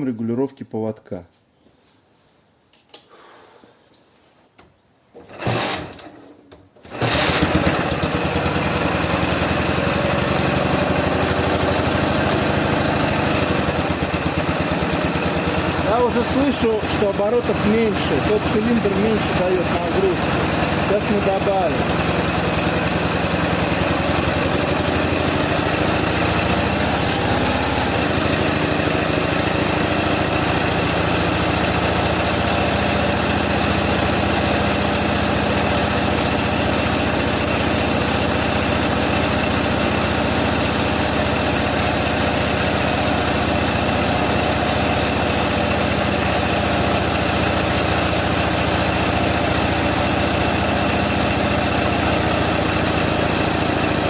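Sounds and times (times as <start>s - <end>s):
motorcycle engine idling: 7.6s - 54.0s.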